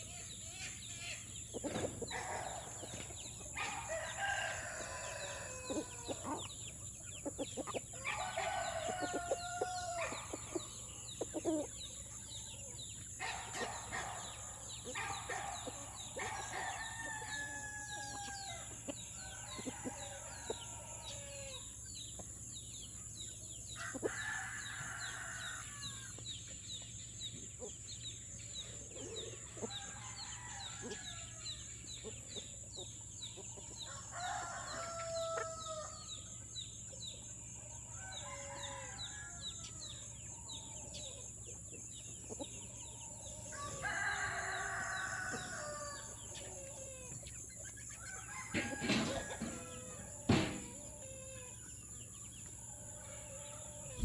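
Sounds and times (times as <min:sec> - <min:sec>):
roosters crowing: 0:00.0 - 0:22.1, 0:22.8 - 0:26.4, 0:27.6 - 0:54.0
chickens clucking: 0:00.0 - 0:38.5, 0:39.4 - 0:54.0.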